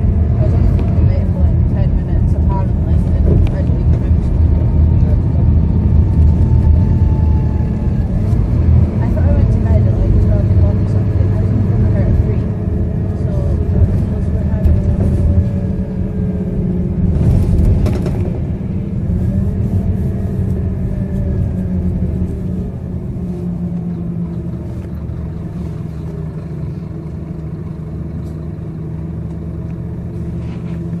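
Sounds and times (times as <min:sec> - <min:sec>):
bus diesel engine drone: 0:00.0 - 0:31.0.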